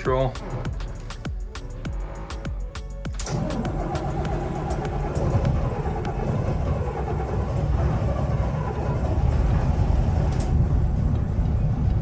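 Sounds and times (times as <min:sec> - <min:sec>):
diesel engines idling: 0:00.0 - 0:12.0.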